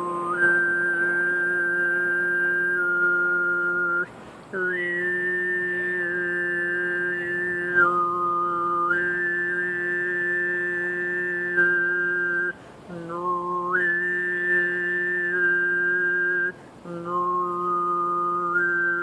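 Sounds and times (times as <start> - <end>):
man overtone singing: 0.0 - 19.0.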